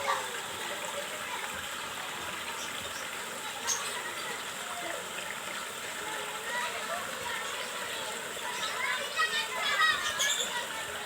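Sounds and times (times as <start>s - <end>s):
faint children's voices: 0.0s - 11.0s.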